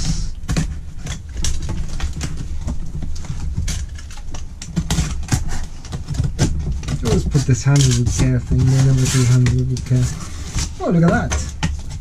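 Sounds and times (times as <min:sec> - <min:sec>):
cardboard being handled: 0:00.0 - 0:12.0.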